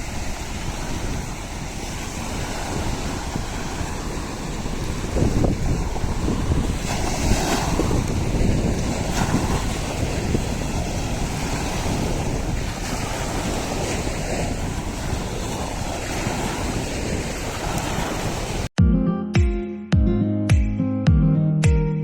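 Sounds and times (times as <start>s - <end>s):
wind buffeting microphone: 0.0s - 18.7s.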